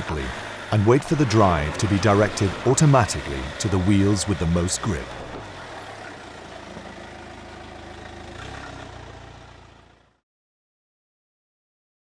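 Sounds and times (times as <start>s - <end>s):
car engine at low revs: 0.0s - 10.2s.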